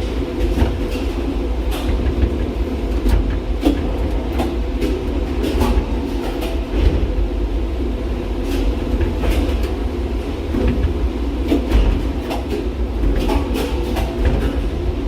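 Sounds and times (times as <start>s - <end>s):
tram car rumbling up track: 0.0s - 15.0s.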